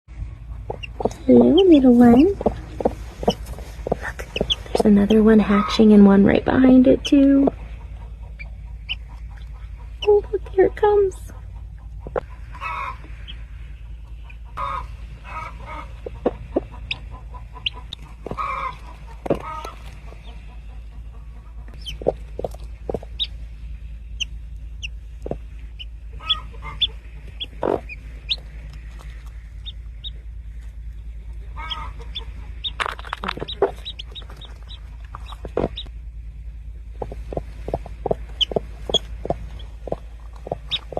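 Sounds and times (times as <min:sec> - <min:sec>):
steady low hum: 0:00.1 - 0:40.9
chickens clucking: 0:00.4 - 0:23.3, 0:26.1 - 0:30.2, 0:31.2 - 0:35.9, 0:37.0 - 0:40.9
chicks peeping: 0:00.5 - 0:23.4, 0:24.2 - 0:35.9, 0:37.0 - 0:40.9.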